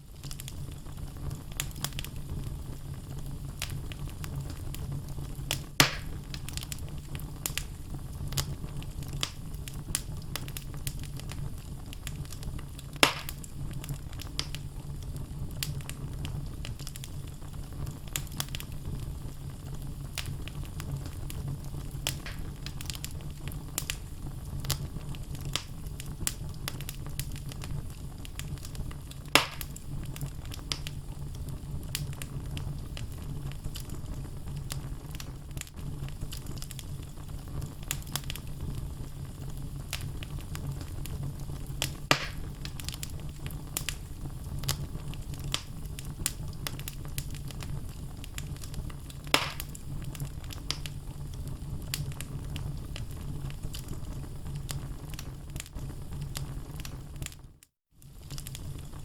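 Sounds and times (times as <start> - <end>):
wood logs crackling in fireplace: 0.0 - 59.0.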